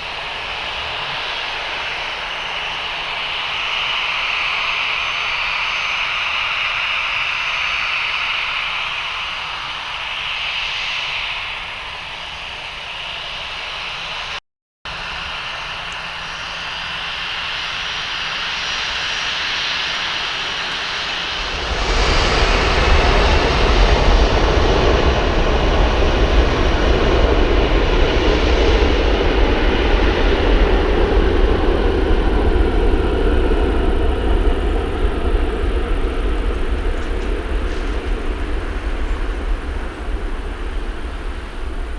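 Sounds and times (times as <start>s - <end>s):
aircraft engines roaring: 0.0s - 41.9s.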